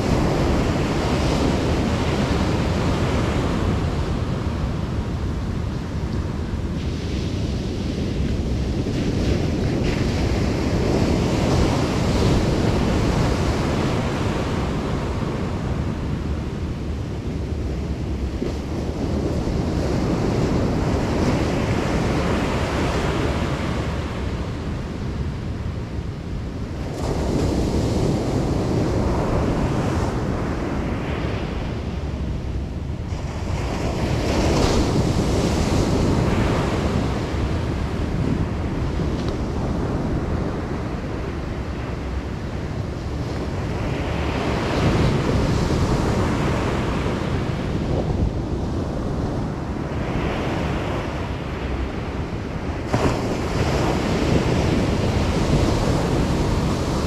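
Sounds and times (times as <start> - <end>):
ocean surf washing onto beach: 0.0 - 57.0
wind buffeting microphone: 0.0 - 57.0.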